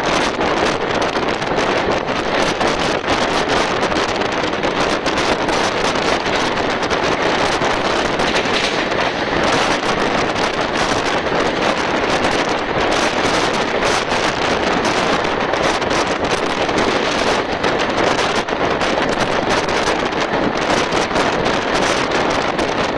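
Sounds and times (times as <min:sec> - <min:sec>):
wind rushing over microphone: 0:00.0 - 0:22.9.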